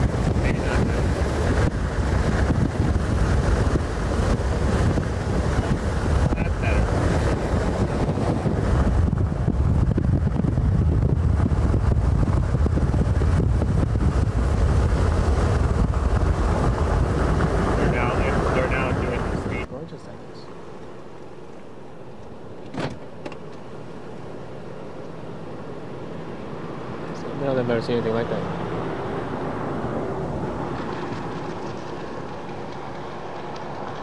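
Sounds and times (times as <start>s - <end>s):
wind buffeting microphone: 0.0s - 19.7s, 23.7s - 34.0s.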